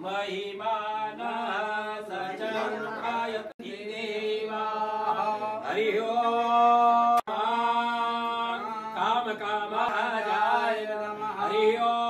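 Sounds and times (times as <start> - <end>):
mantras chanted in held notes: 0.0 - 12.0.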